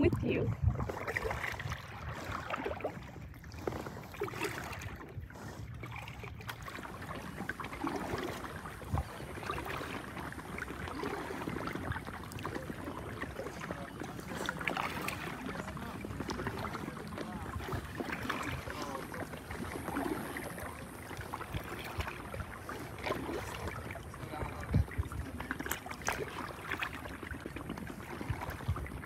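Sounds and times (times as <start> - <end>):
small water splashes: 0.0 - 29.0
water lapping against hull: 0.0 - 29.0.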